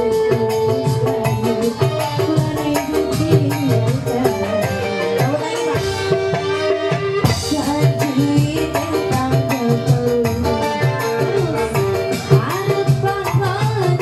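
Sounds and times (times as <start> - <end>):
electronic keyboard: 0.0 - 14.0
hand-drum beat: 0.0 - 14.0
woman singing into a microphone: 0.0 - 14.0.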